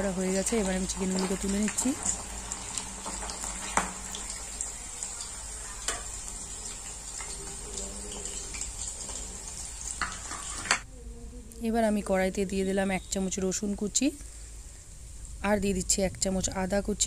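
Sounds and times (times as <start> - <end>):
hot oil sizzling: 0.0 - 10.9, 12.4 - 17.0.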